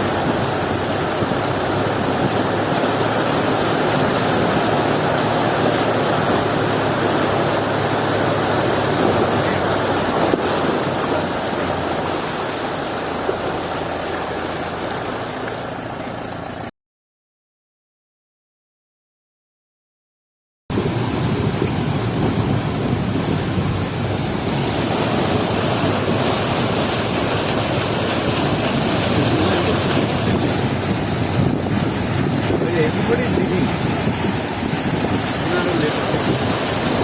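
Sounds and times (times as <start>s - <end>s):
steady rushing noise: 0.0s - 15.4s, 20.7s - 37.0s.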